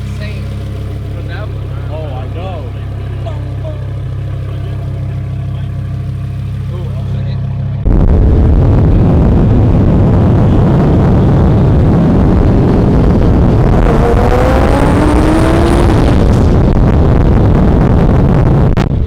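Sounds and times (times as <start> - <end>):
car engine running: 0.0 - 19.0
rising engine whine: 0.0 - 19.0.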